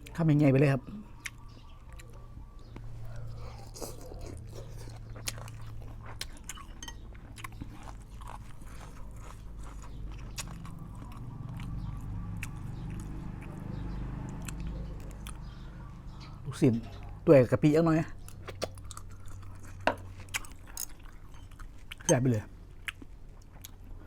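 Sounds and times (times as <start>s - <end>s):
person chewing crunchy food: 1.1s - 16.2s, 18.3s - 24.0s.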